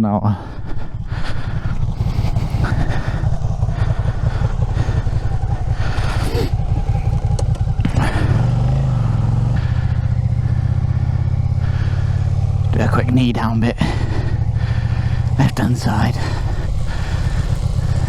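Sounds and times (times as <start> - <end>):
motorcycle engine running: 0.3 - 18.0.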